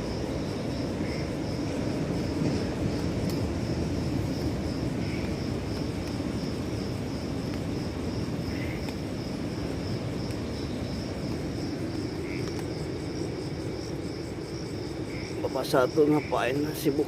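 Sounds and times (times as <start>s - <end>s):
distant surf breaking: 0.0s - 17.0s
insects chirping: 0.0s - 17.0s.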